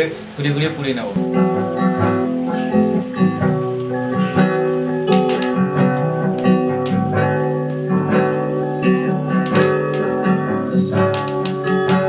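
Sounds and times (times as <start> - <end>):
acoustic guitar strumming: 1.1 - 12.0.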